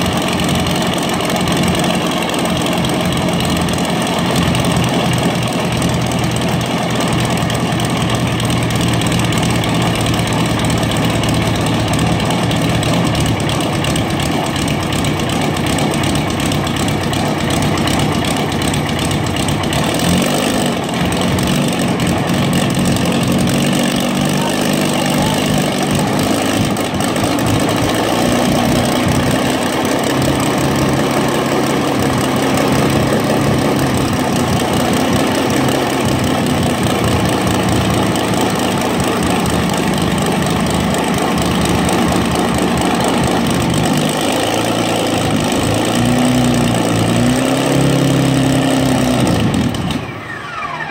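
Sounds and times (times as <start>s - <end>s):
aircraft engine idling: 0.0s - 50.9s.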